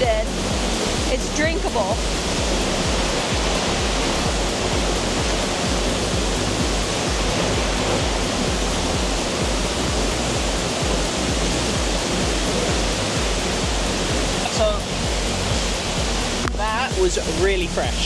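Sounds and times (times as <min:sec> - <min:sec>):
waterfall pouring into pool: 0:00.1 - 0:18.0.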